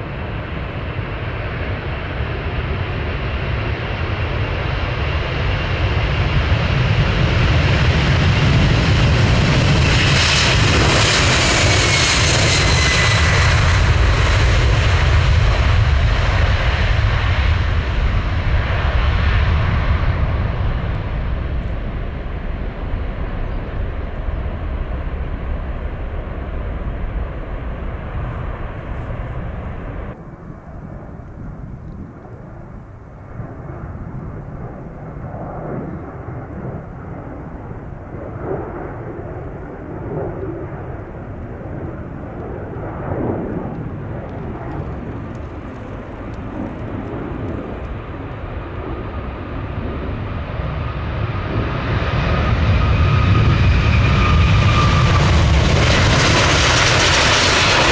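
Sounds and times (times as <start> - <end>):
high jet engine whine: 0.0 - 57.9
jet engine rumble: 0.0 - 57.9.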